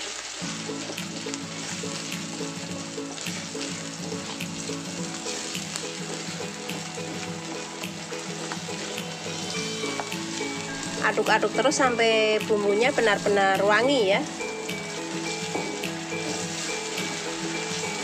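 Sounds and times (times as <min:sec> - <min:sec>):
spice paste sizzling in oil: 0:00.0 - 0:18.0
background music: 0:00.4 - 0:18.0.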